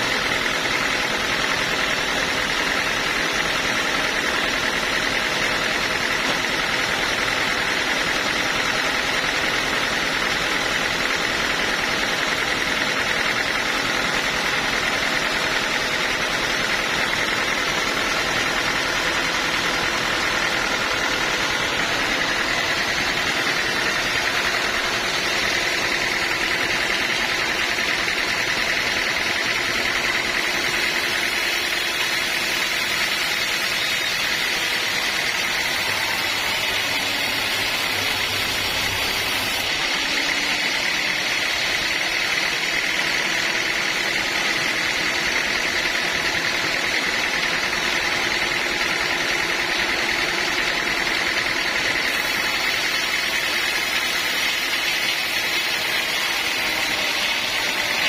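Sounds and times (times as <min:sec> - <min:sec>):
sawmill running: 0:00.0 - 0:58.0.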